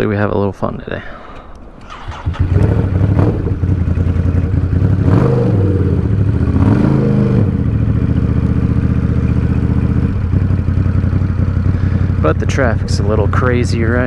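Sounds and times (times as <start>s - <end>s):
motorcycle engine accelerating: 1.8s - 14.0s.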